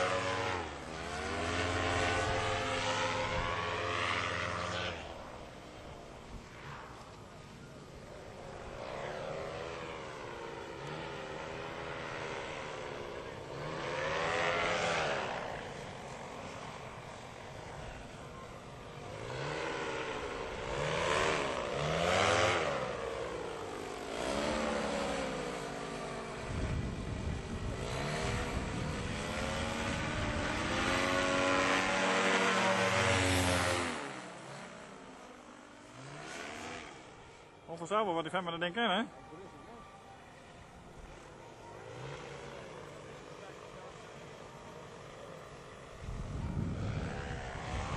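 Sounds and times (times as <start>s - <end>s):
paramotor engine and propeller: 0.0s - 47.9s.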